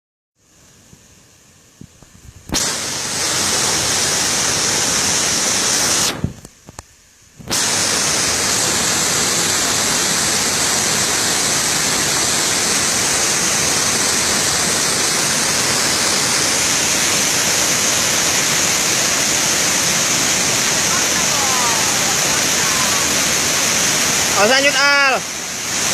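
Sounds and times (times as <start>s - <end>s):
waterfall roaring: 2.6s - 6.4s, 7.5s - 25.9s.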